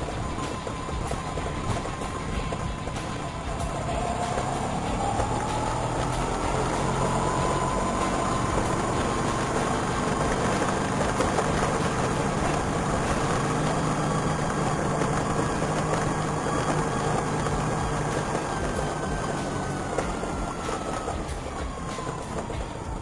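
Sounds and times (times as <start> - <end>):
scooter engine running: 0.0 - 23.0
whistling whine gliding in pitch: 0.0 - 23.0.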